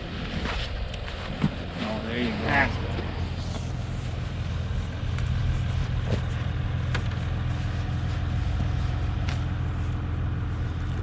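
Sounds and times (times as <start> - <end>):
diesel engine idling: 1.7 - 11.0.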